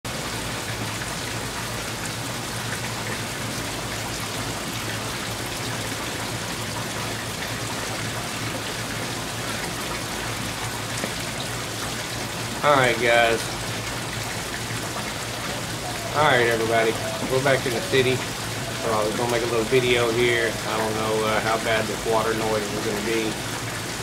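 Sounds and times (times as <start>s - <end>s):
water falling into a pond: 0.1s - 24.0s.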